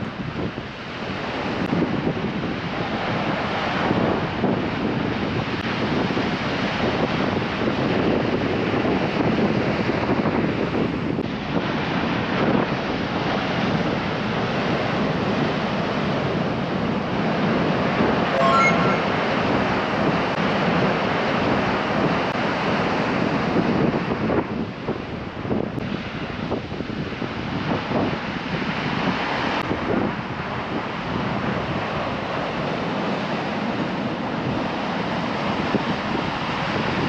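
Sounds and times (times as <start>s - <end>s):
wind buffeting microphone: 0.0s - 18.3s, 19.3s - 37.0s.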